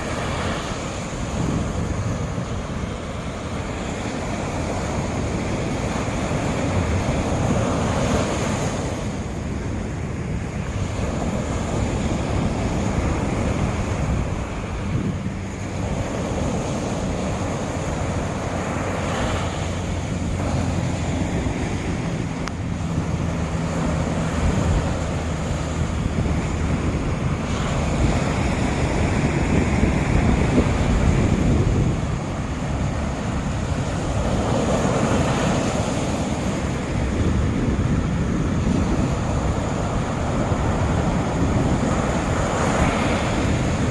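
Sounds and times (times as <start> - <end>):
surf breaking on beach: 0.0 - 43.9
wind buffeting microphone: 0.0 - 43.9.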